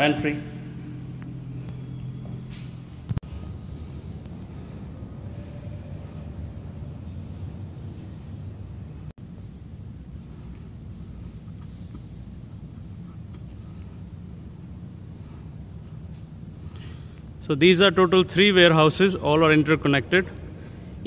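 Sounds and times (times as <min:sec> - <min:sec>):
small birds chirping: 0:00.0 - 0:17.6
low room noise rumble: 0:00.0 - 0:21.0.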